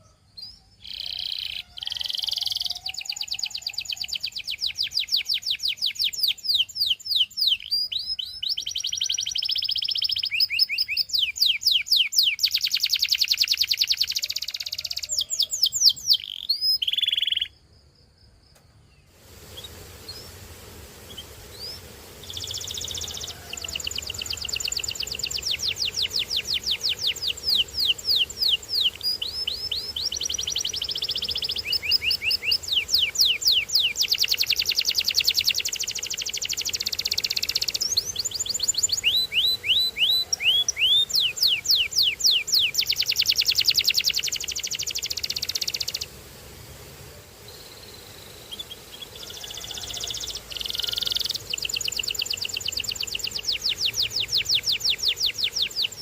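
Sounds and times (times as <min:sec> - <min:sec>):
canary singing in trills: 0:00.0 - 0:17.6, 0:21.0 - 0:46.2, 0:47.5 - 0:56.0.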